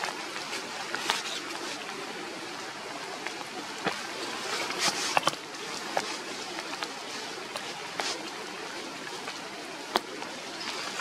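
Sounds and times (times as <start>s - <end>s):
rain falling through forest: 0.0s - 11.0s.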